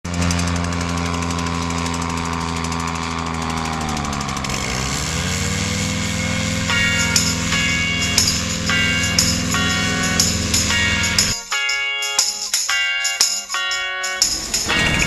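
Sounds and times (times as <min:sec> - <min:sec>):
paramotor engine and propeller: 0:00.0 - 0:11.4, 0:14.2 - 0:15.0.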